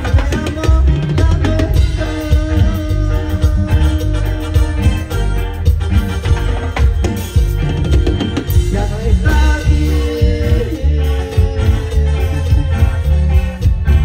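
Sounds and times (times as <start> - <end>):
live band music: 0.0 - 14.0.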